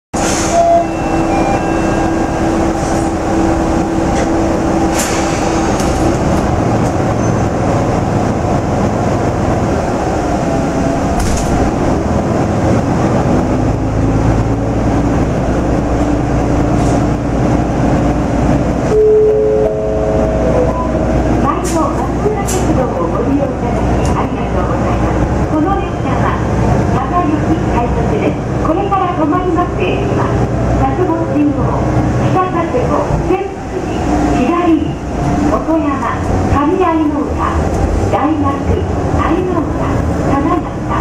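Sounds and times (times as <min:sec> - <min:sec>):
diesel engine running: 0:00.2 - 0:41.0
train wheels rolling on rails: 0:02.8 - 0:19.0, 0:20.4 - 0:41.0.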